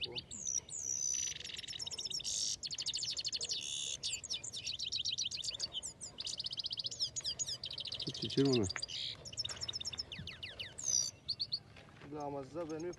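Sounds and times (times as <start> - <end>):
goldfinch twittering song: 0.0 - 12.9.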